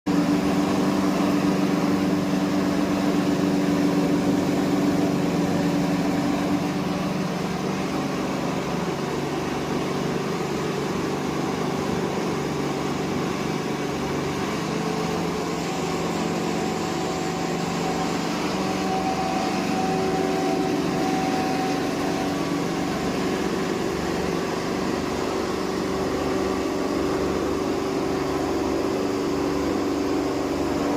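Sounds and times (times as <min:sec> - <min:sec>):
hammer mill grinder running: 0:00.1 - 0:30.9.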